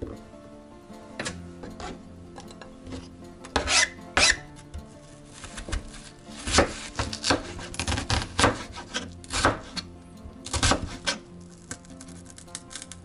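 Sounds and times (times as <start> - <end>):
background music: 0.0 - 13.0
knife slicing onion on cutting board: 1.2 - 2.0, 2.9 - 12.9.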